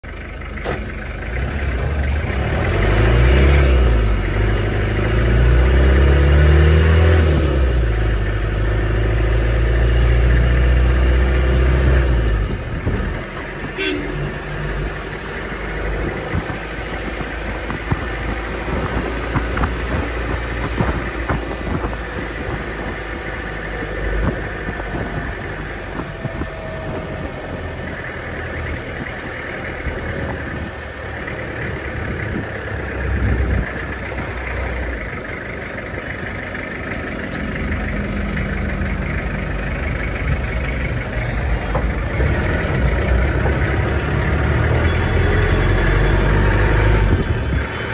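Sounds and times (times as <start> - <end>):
car engine running: 0.0 - 3.4, 4.0 - 47.9
road noise: 0.0 - 47.9.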